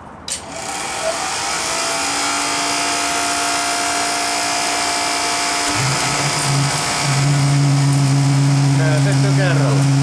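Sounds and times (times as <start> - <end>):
burner and blowers running: 0.3 - 10.0.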